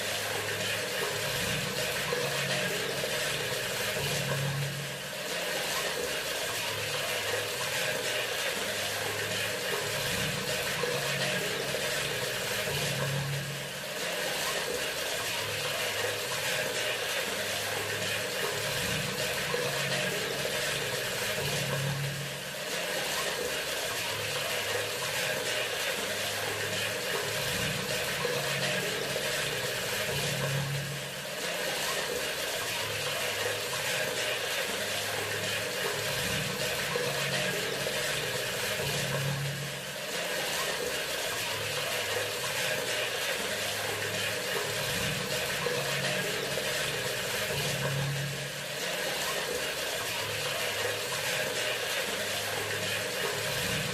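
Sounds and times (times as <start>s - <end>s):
faucet running into sink: 0.0s - 53.9s.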